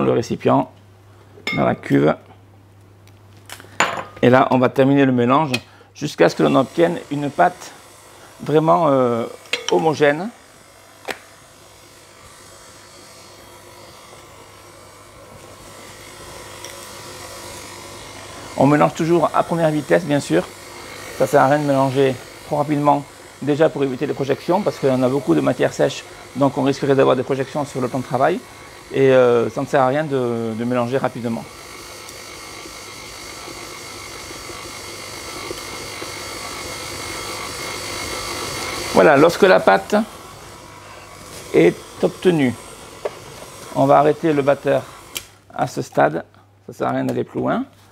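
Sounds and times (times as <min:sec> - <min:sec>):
stand mixer motor hum: 0:06.1 - 0:45.5.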